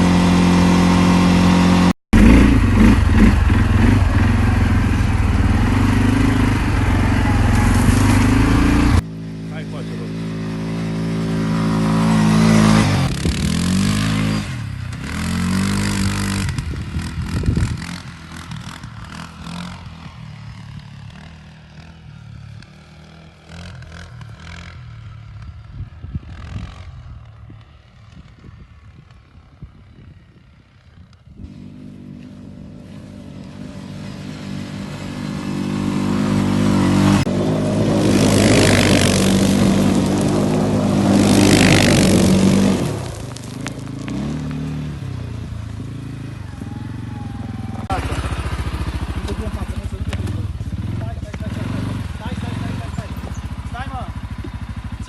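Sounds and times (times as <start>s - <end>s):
off-road vehicle engine revving: 0.0s - 25.4s, 31.4s - 55.0s.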